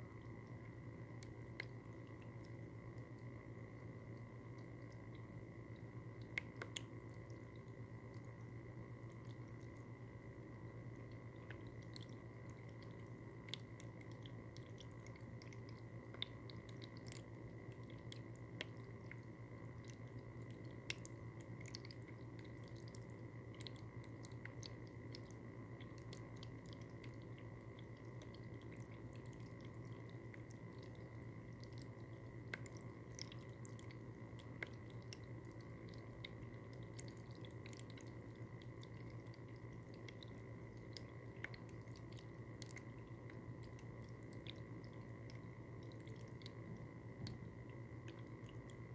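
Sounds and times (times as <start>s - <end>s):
small pump humming: 0.0s - 48.9s
water trickling and dripping: 0.0s - 48.9s.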